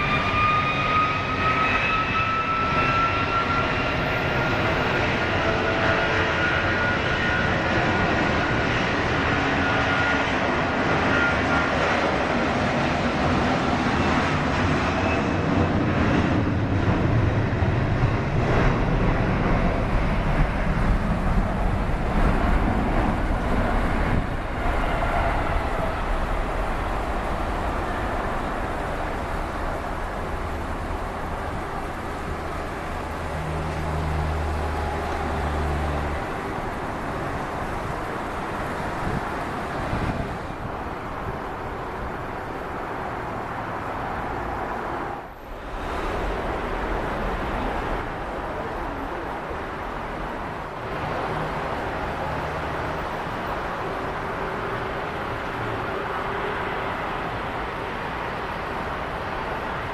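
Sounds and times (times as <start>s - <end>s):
jet airliner engines rumbling: 0.0s - 59.9s.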